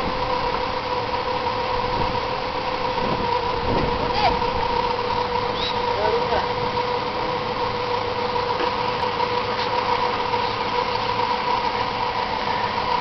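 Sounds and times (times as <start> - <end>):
convertible top pump motor whine: 0.0 - 13.0.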